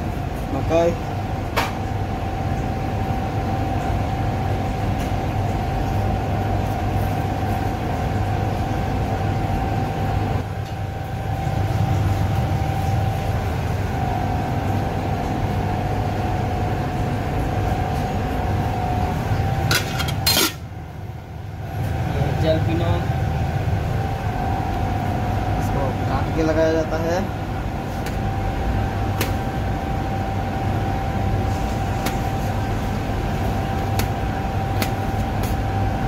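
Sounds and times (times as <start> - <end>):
faint steady whine: 0.0 - 36.0
low machine hum: 0.0 - 36.0.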